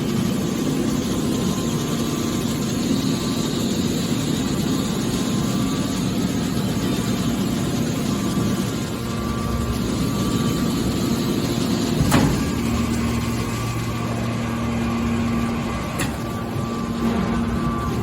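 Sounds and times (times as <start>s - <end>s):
baler machine hum: 0.0s - 18.0s.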